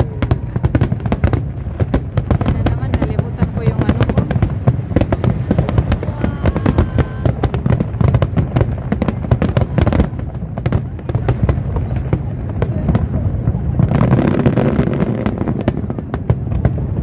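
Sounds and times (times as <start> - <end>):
low booming: 0.0 - 17.0.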